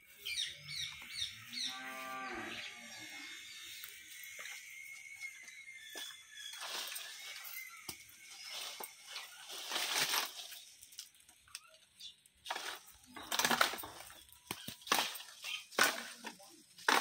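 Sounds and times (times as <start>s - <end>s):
tree leaves and branches rustling: 0.0s - 17.0s.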